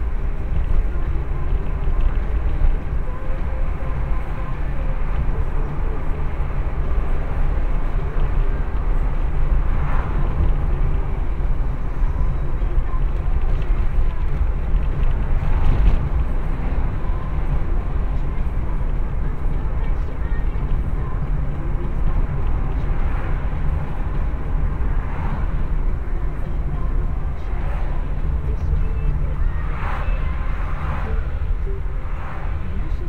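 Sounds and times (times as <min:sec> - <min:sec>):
car cabin road and engine rumble: 0:00.0 - 0:33.0.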